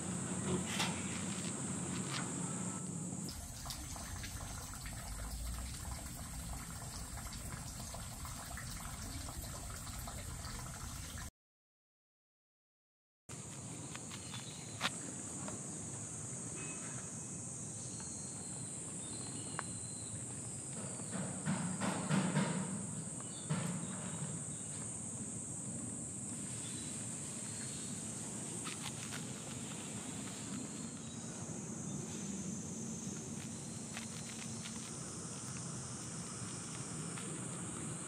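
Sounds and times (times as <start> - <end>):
high-pitched insect chorus: 0.0 - 11.2, 14.0 - 38.0.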